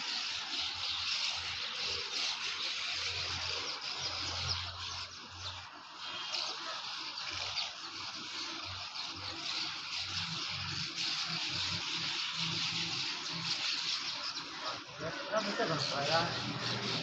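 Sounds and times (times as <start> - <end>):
swallows twittering: 0.0 - 17.0.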